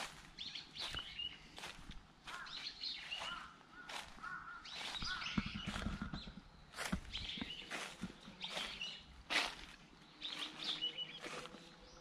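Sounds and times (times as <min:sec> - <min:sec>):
birds chirping: 0:00.0 - 0:12.0
footsteps on leaf litter: 0:00.0 - 0:12.0.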